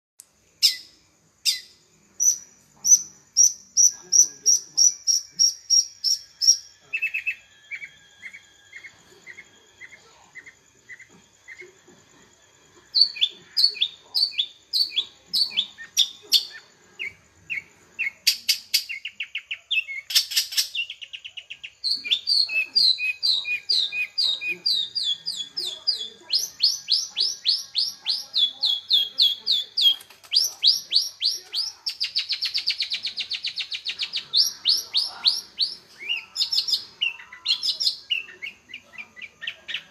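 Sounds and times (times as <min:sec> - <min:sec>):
shrike singing: 0:00.3 - 0:39.9
harsh bird calls: 0:00.5 - 0:12.0, 0:12.8 - 0:39.9.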